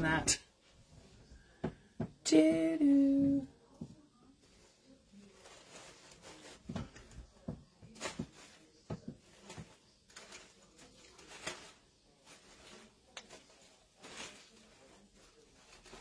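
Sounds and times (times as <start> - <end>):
ribbon and fabric rustling: 2.3 - 16.0.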